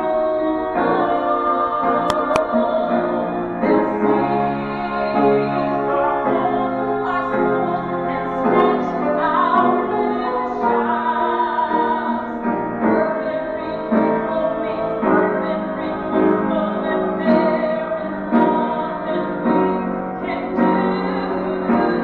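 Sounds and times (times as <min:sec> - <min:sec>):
piano chords: 0:00.0 - 0:22.0
woman singing: 0:00.0 - 0:22.0.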